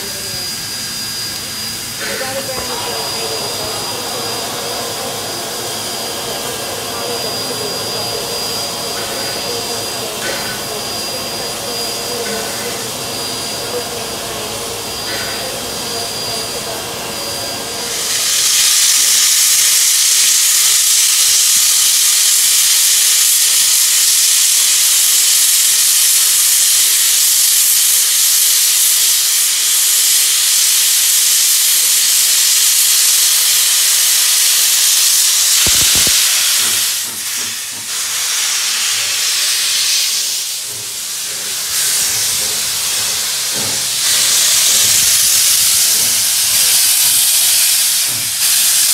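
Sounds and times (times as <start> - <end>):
steady mechanical hum: 0.0 - 48.6
steam locomotive hissing: 0.0 - 48.9.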